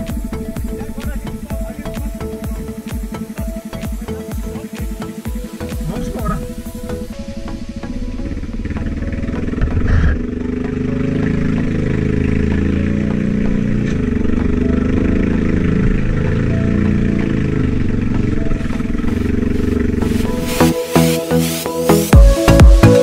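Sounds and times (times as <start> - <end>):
quad bike engine revving: 0.0 - 20.8
music: 0.0 - 23.0.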